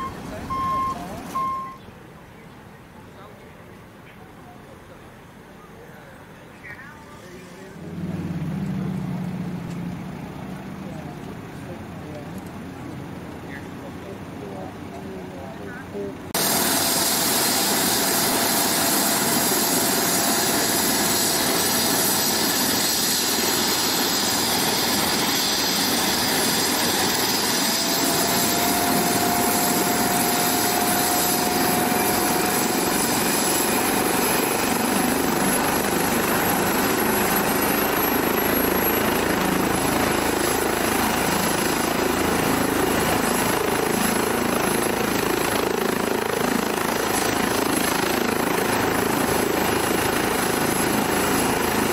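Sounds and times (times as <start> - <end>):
faint turbine whine: 0.0 - 51.9
helicopter turbines and rotor: 6.7 - 51.9.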